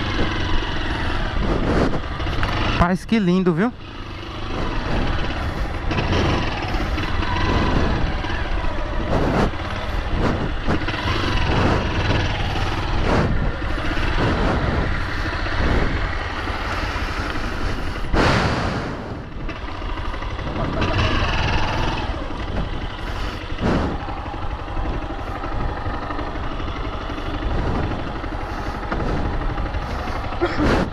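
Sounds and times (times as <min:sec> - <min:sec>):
wind noise on microphone: 0:00.0 - 0:02.5, 0:04.5 - 0:19.6, 0:20.4 - 0:30.9
small motorcycle engine: 0:00.0 - 0:30.9.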